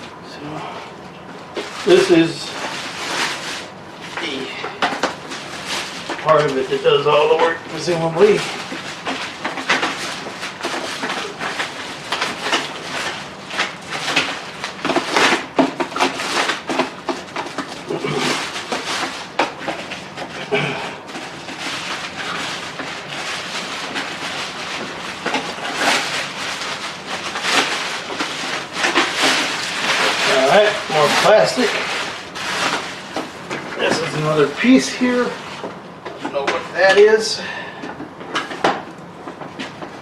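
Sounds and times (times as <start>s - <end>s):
plastic wrap crinkling: 1.2s - 40.0s.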